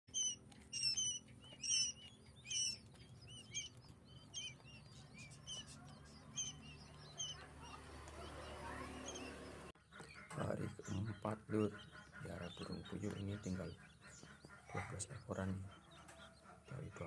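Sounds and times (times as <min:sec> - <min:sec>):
quail chicks peeping: 0:00.1 - 0:17.0.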